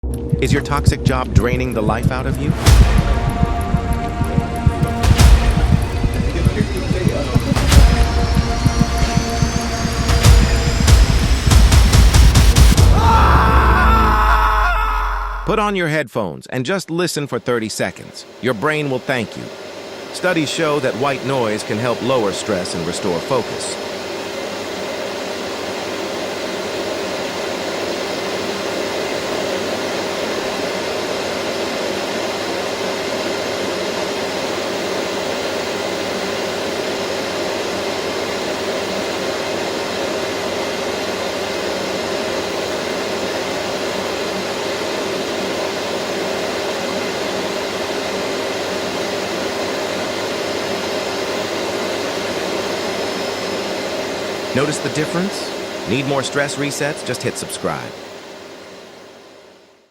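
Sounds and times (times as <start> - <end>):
vacuum cleaner running: 0.0 - 15.4, 17.3 - 59.8.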